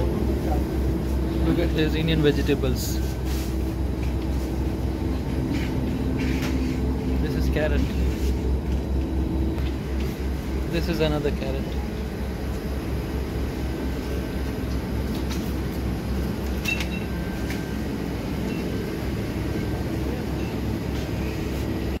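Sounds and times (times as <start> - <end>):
supermarket background rumble: 0.0 - 22.0.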